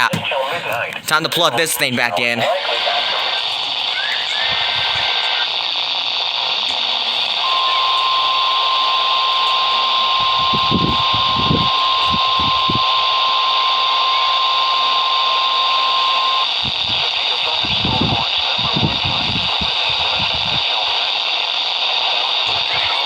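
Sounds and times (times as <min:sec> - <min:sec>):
radio static hiss: 0:00.0 - 0:23.0
steady alarm tone: 0:01.3 - 0:23.0.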